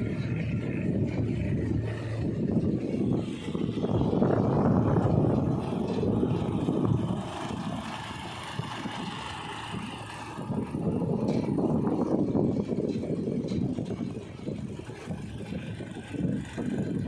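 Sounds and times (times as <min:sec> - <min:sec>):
small boat motor running: 0:00.0 - 0:17.0
wind buffeting microphone: 0:00.0 - 0:17.0.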